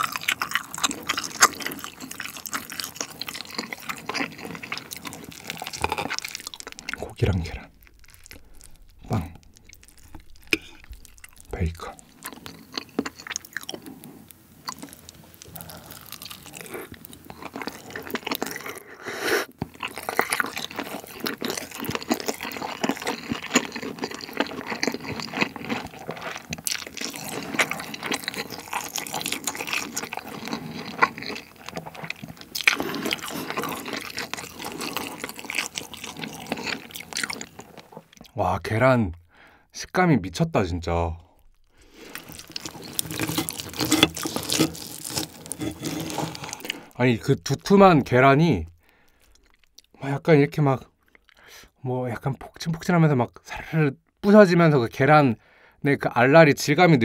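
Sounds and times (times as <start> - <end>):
close chewing mouth sounds: 0.0 - 38.4, 41.2 - 47.8, 48.7 - 50.0, 50.9 - 51.8.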